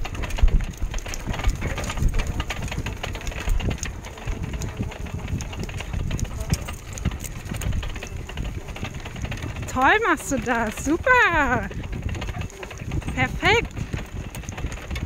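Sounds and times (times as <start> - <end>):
metal frame rattling and clicking: 0.0 - 15.0
wheels rumbling on dirt track: 0.0 - 15.0.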